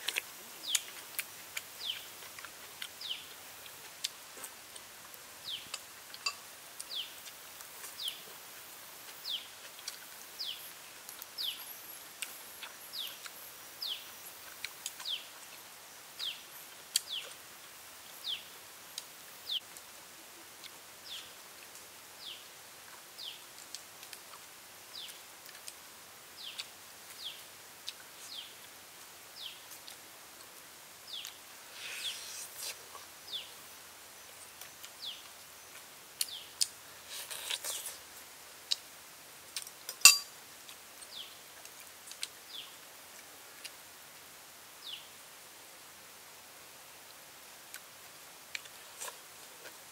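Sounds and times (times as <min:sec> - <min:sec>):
forest background hiss: 0:00.0 - 0:49.9.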